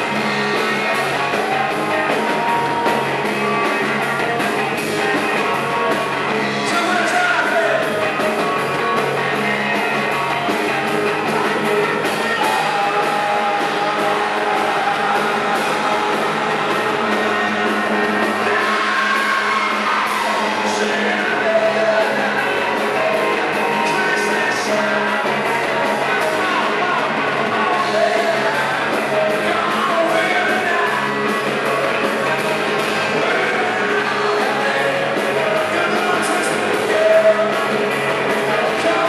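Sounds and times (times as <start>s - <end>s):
drums with cymbal hits: 0.0s - 39.0s
rock band playing: 0.0s - 39.0s.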